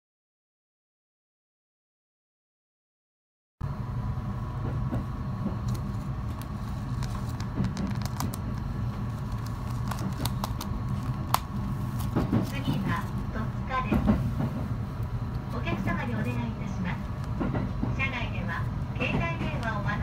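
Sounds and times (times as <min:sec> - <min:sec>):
faint steady whine: 0:03.6 - 0:20.0
train rumble inside carriage: 0:03.6 - 0:20.0.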